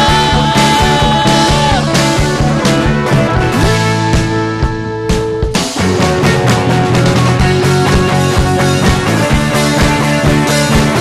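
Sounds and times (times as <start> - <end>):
drum kit with cymbals: 0.0 - 11.0
electric guitar chords: 0.0 - 11.0.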